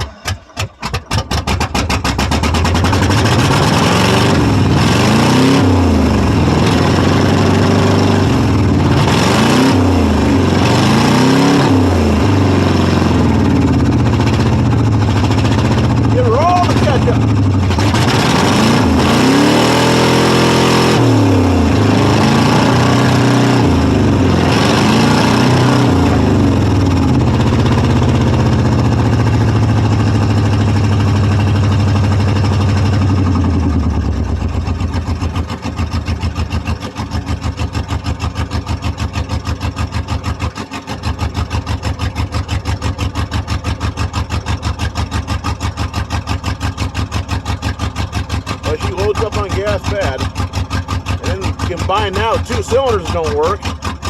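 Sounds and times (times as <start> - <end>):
engine idling roughly with misfires: 0.0 - 11.3, 11.9 - 54.0
engine revving: 0.0 - 54.0.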